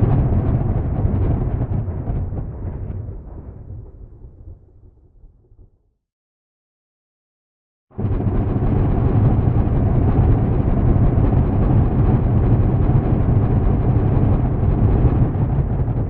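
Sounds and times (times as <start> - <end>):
thunder rumbling: 0.0 - 5.8, 8.0 - 16.0.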